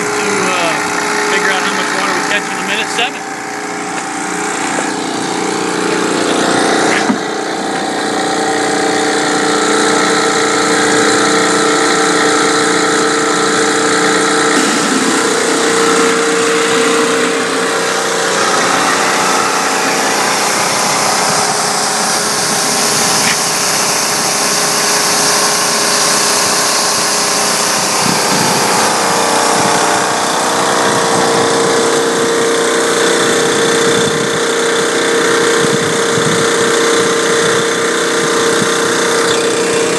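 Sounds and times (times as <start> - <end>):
engine and pump running: 0.0 - 39.9.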